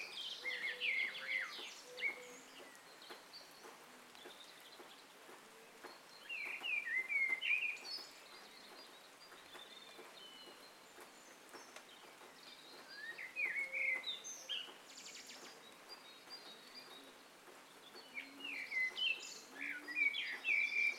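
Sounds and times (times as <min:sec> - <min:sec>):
steady background hiss: 0:00.0 - 0:20.9.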